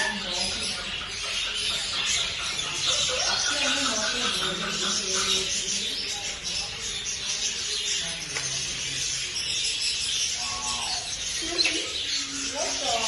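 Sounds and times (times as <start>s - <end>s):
faint voices: 0.0s - 13.0s
small birds chirping: 0.0s - 13.0s.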